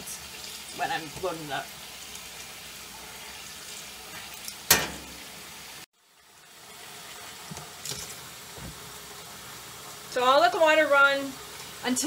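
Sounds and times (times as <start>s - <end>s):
tap water running into tub: 0.0s - 12.0s.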